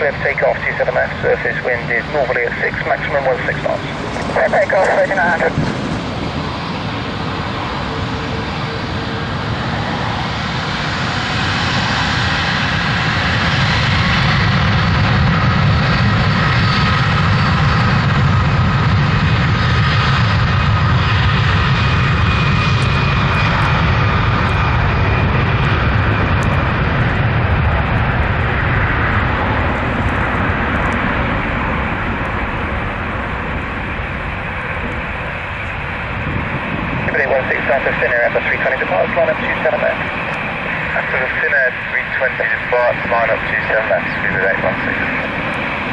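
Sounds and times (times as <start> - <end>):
jet engines at takeoff: 0.0 - 45.9.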